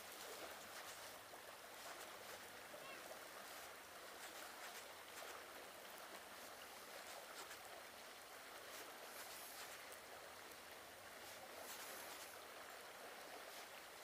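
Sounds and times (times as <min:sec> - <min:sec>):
faint riverside hiss: 0:00.0 - 0:14.0.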